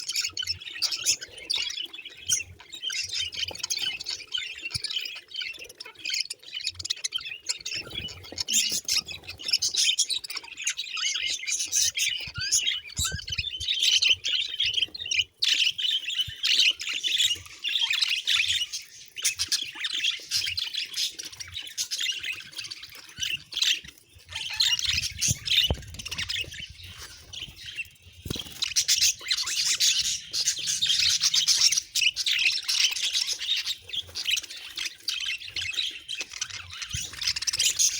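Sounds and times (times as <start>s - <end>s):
budgerigars chirping and chattering: 0.0s - 37.9s.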